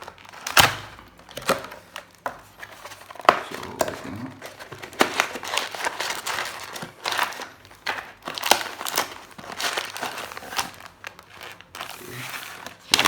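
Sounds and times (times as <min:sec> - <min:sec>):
plastic wrapping crinkling and tearing: 0:00.0 - 0:13.0.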